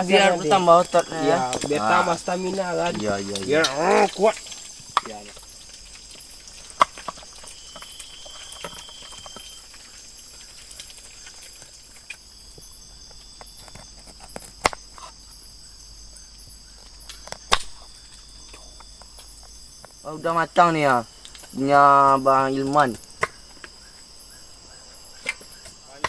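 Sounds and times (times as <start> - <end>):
eggs frying in a pan: 0.0 - 26.0
forest insects droning: 0.0 - 26.0.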